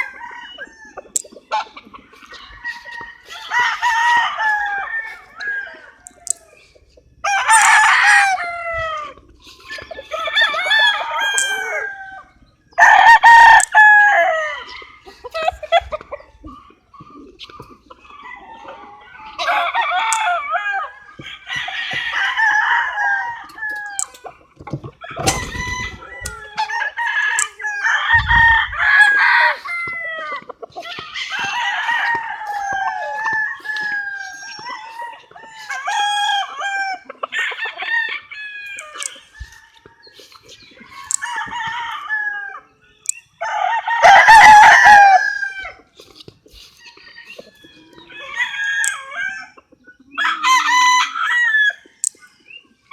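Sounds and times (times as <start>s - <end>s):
roosters crowing: 0.0s - 52.2s
chickens clucking: 0.0s - 52.9s.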